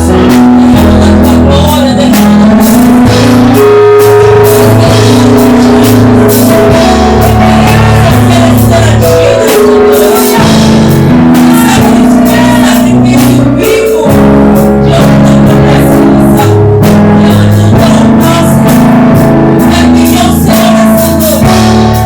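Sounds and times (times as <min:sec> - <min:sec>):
bass: 0:00.0 - 0:22.0
guitar: 0:00.0 - 0:22.0
keyboard: 0:00.0 - 0:22.0
person singing melody: 0:00.0 - 0:22.0
steady drum beat: 0:00.0 - 0:22.0.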